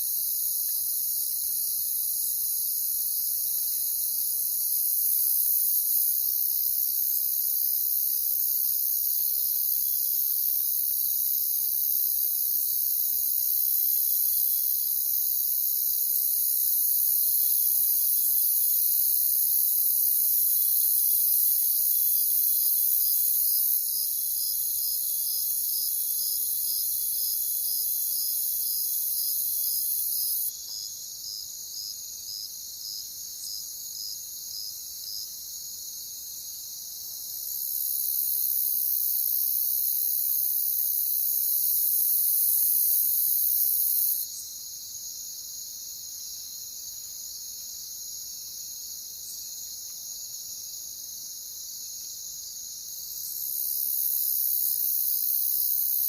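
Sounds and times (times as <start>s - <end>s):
crickets chirping chorus: 0.0s - 56.0s
single cricket chirping: 0.0s - 56.0s.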